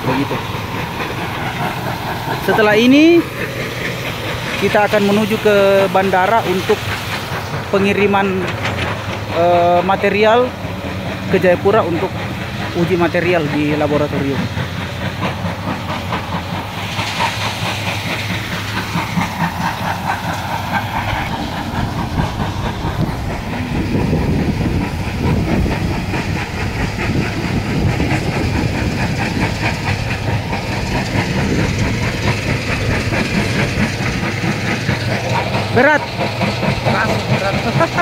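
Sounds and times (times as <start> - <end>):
heavy machinery rumbling: 0.0 - 38.0
rhythmic machinery clatter: 0.0 - 38.0.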